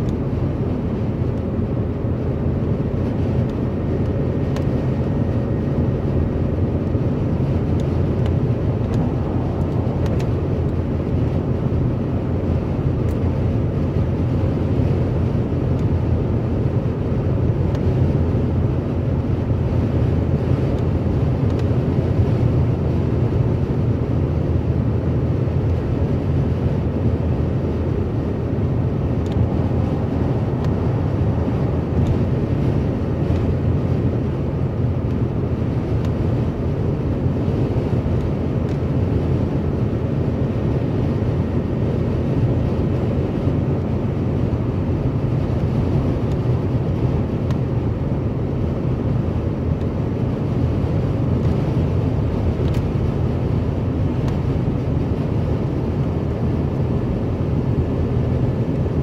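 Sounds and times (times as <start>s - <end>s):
car engine: 0.0s - 59.0s
tyre and road noise: 0.0s - 59.0s
wind noise: 0.0s - 59.0s.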